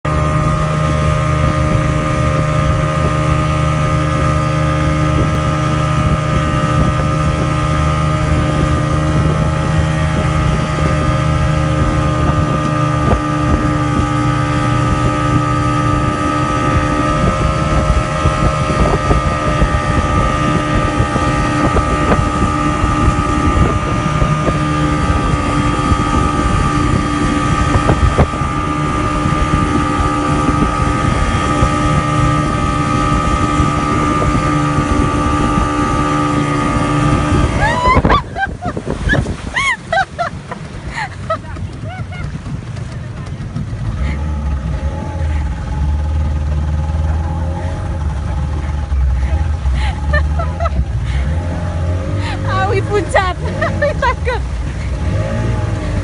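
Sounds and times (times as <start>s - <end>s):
motorboat engine running: 0.0s - 56.0s
wind buffeting microphone: 0.0s - 56.0s.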